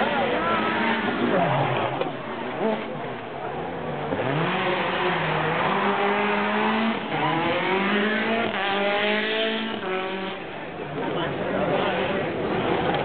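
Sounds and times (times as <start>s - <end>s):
rally car engine revving hard: 0.0s - 13.0s.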